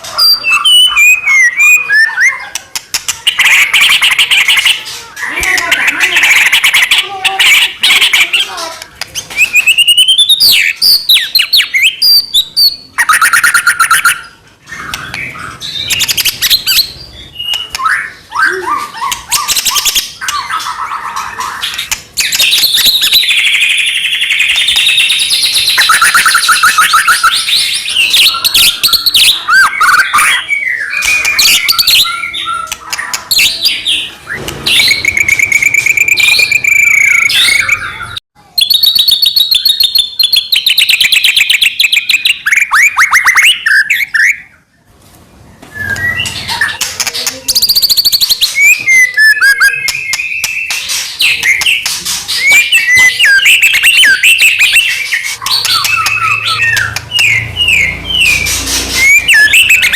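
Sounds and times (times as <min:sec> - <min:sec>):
songbird whistling and trilling: 0:00.0 - 0:08.2, 0:09.2 - 0:44.6, 0:45.6 - 0:59.9.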